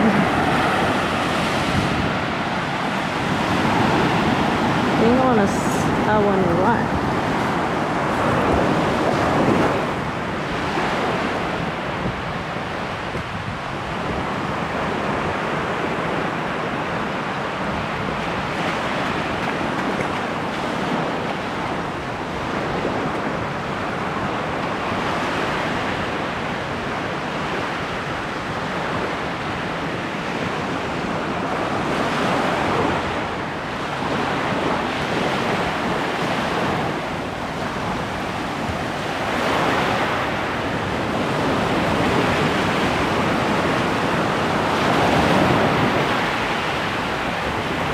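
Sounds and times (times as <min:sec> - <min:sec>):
ocean surf washing onto shore: 0:00.0 - 0:47.9.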